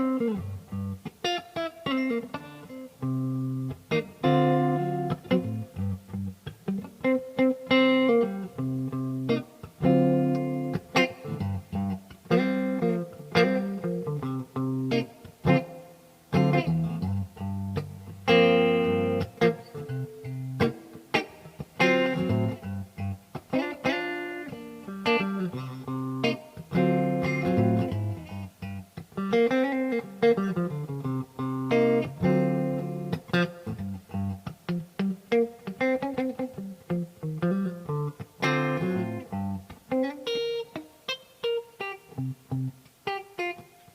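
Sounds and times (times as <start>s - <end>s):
guitar plucked notes and chords: 0.0s - 43.9s.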